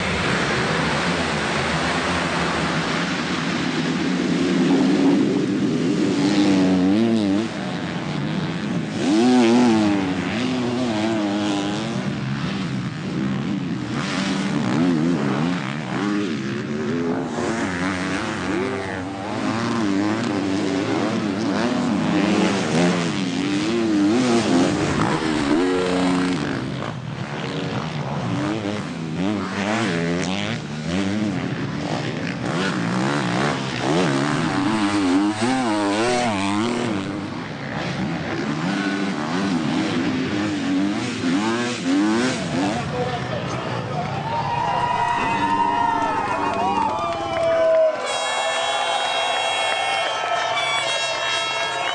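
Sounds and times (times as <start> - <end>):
motorbike engines revving: 0.0 - 51.9.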